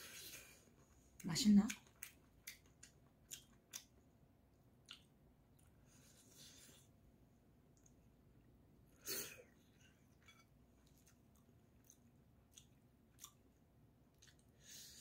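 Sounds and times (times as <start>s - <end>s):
faint chewing: 0.0s - 7.0s, 7.6s - 8.6s, 9.4s - 15.0s.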